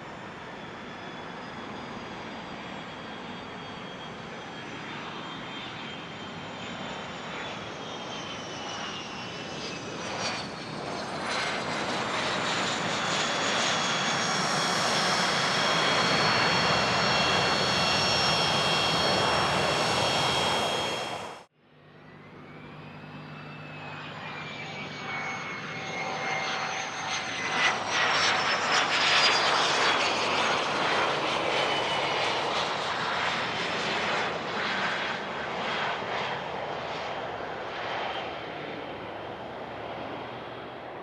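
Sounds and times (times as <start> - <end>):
jet engines passing: 0.0 - 21.5, 22.1 - 41.0.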